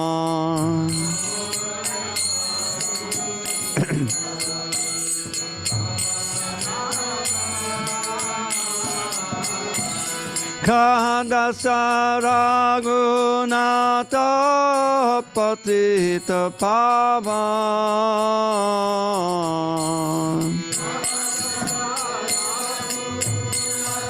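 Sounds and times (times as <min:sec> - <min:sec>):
group of voices singing: 0:00.0 - 0:24.0
harmonium drone: 0:00.0 - 0:24.0
lead voice singing loudly: 0:00.0 - 0:24.0.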